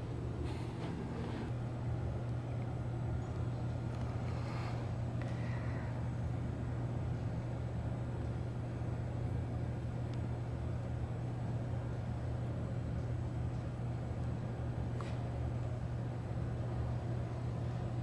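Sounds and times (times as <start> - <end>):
low droning hum: 0.0 - 18.0.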